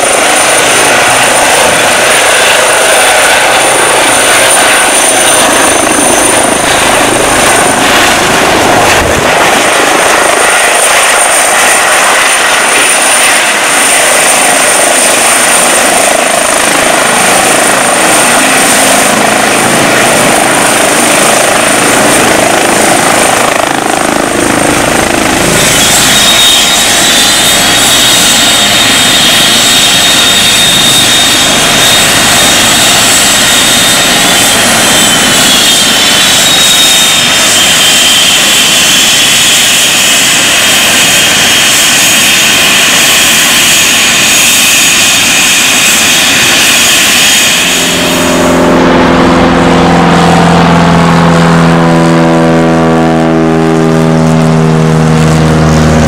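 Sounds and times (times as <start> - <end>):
helicopter turbine whine: 0.0 - 56.0
propeller plane flying overhead: 0.0 - 56.0.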